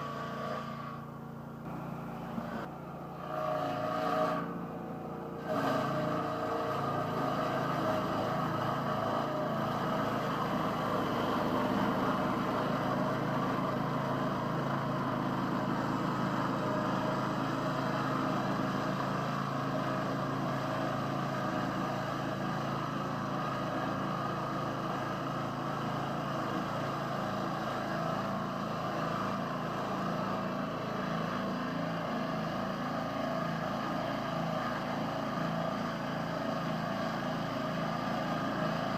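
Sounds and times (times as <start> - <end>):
sawmill cutting wood under load: 0.0 - 38.9.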